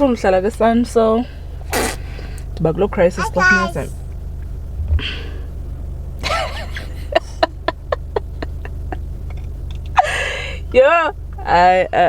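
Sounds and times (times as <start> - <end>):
low hum inside a car: 0.0 - 12.0.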